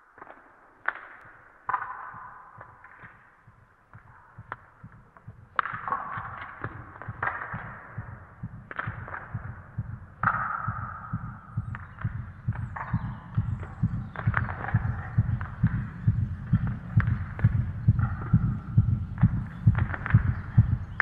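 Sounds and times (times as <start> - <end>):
low pulsing beat: 3.9 - 21.0.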